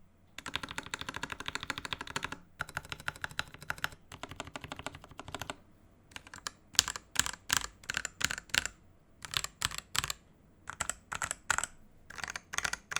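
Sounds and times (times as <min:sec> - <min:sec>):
mechanical keyboard key presses: 0:00.4 - 0:12.9.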